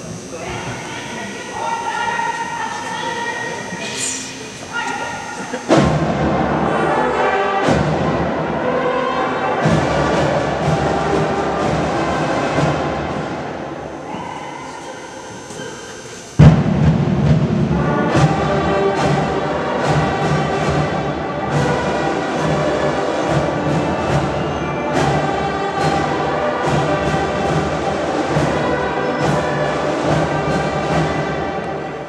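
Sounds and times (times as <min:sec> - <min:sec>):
bugles sustained notes: 0:00.0 - 0:15.5, 0:17.7 - 0:32.0
drum strokes: 0:03.2 - 0:14.4, 0:16.3 - 0:32.0.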